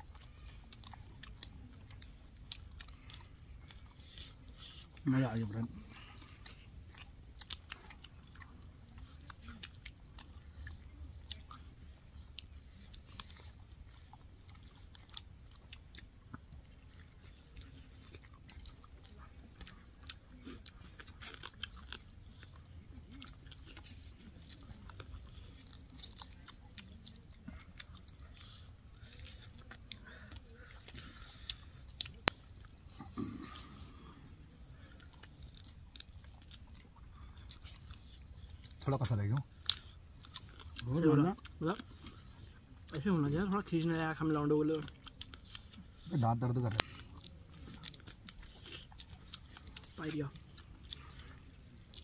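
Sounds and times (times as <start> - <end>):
person chewing with crunches: 0.0 - 52.0.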